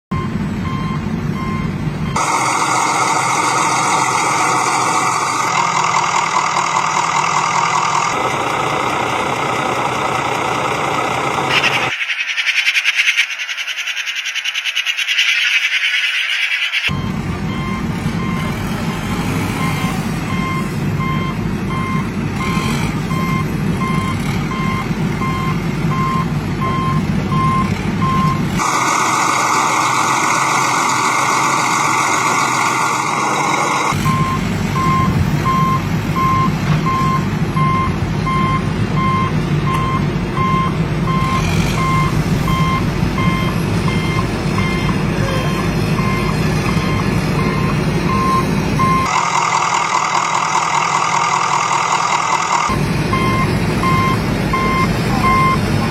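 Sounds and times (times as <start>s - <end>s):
toy truck reversing beeps: 0.1s - 6.7s, 12.9s - 55.6s.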